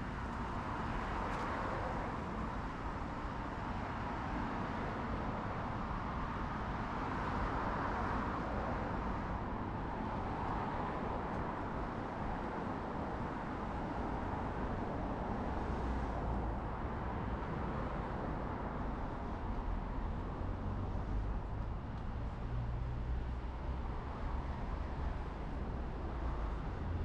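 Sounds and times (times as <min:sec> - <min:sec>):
engine and tyre rumble: 0:00.0 - 0:27.0.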